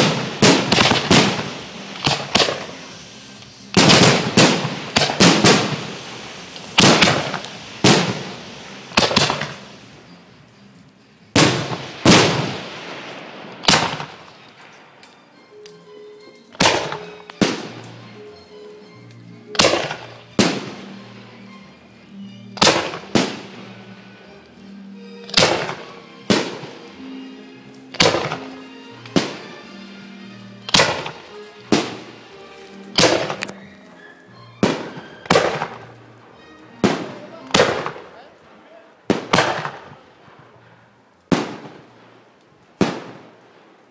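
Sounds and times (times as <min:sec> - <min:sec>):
firework shells bursting: 0:00.0 - 0:21.7, 0:22.3 - 0:43.9.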